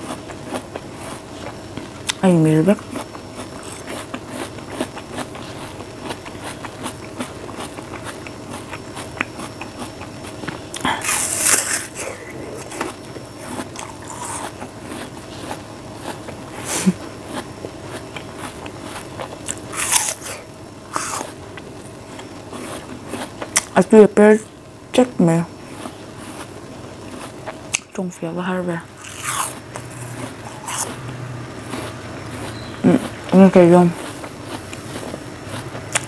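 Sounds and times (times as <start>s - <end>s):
person chewing crunchy fruit: 0.0s - 23.8s, 25.6s - 28.0s, 28.8s - 36.0s.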